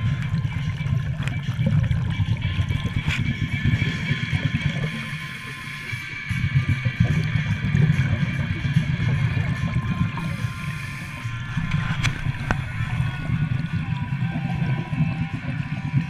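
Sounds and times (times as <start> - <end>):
regulator bubbles underwater: 0.0 - 16.0.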